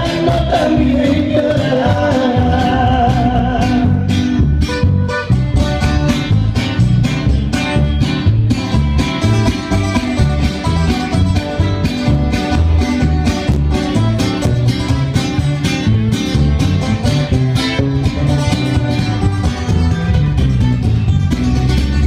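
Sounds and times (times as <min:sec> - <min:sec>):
plucked guitar melody: 0:00.0 - 0:22.0
rhythmic bass line: 0:00.0 - 0:22.0.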